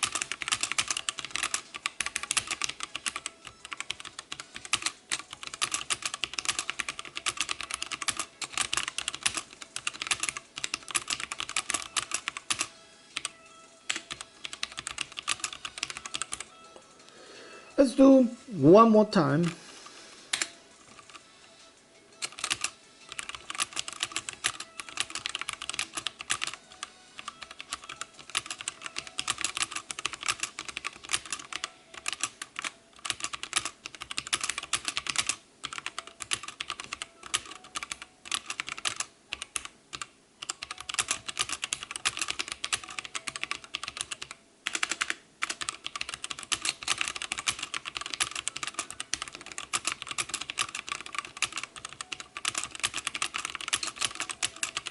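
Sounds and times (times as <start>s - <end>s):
fast keyboard typing: 0.0s - 16.5s, 20.3s - 21.2s, 22.2s - 54.9s.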